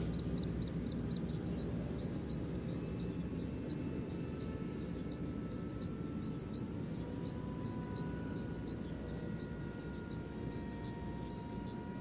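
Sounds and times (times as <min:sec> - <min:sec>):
bird chirping: 0:00.0 - 0:12.0
low background rumble: 0:00.0 - 0:12.0
model plane motor whine: 0:00.0 - 0:12.0.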